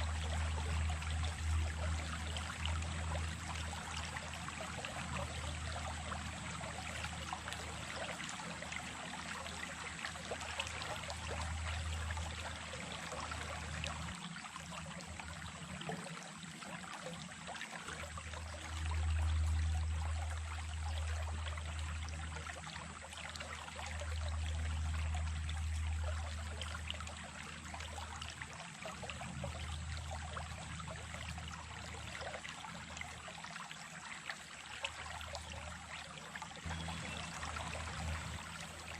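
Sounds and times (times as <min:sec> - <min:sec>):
small stream flowing: 0:00.0 - 0:38.9.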